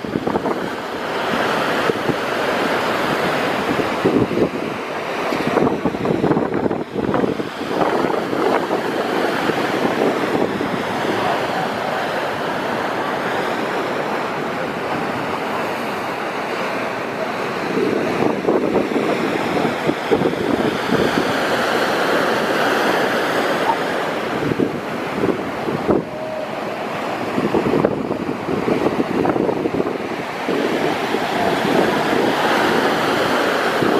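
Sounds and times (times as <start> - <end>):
waves breaking and washing: 0.0 - 33.9
wind buffeting microphone: 0.0 - 33.9.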